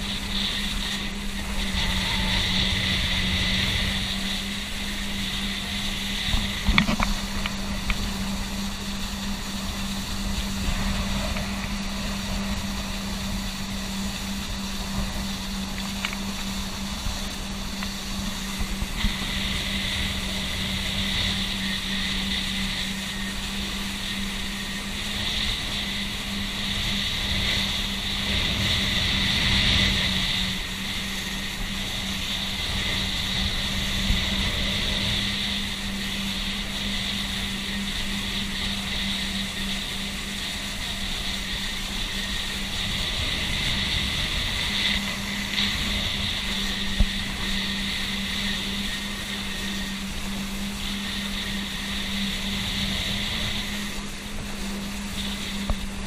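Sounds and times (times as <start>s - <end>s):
motorboat engine running: 0.0s - 56.0s
water rushing past hull: 0.0s - 56.0s.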